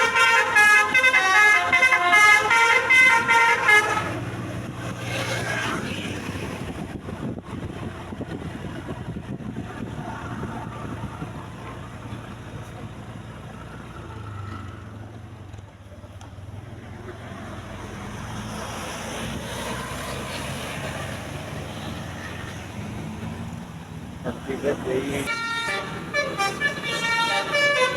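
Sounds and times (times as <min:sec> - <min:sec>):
bus engine drone: 0:00.0 - 0:27.9.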